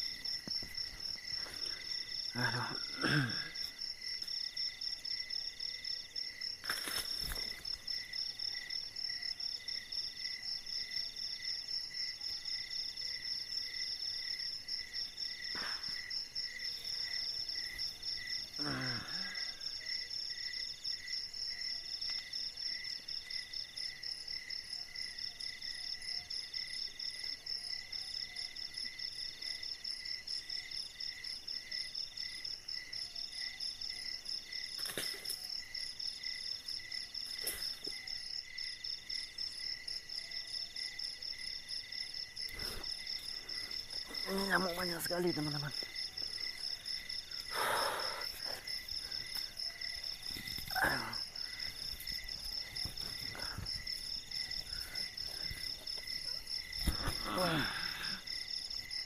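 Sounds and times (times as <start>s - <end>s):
insect chirping in bursts: 0.0s - 59.0s
night insects trilling: 0.0s - 59.0s.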